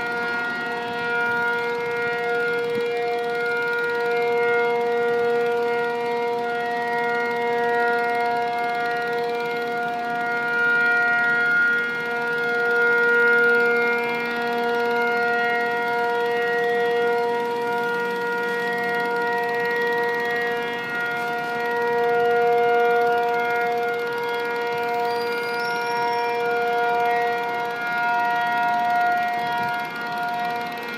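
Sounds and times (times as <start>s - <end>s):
air raid siren: 0.0s - 30.9s.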